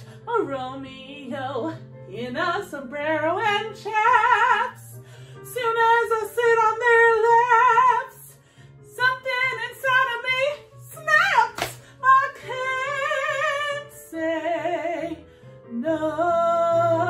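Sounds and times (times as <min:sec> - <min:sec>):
quiet musical accompaniment: 0:00.0 - 0:17.0
woman singing with vibrato: 0:00.3 - 0:08.3, 0:08.9 - 0:17.0.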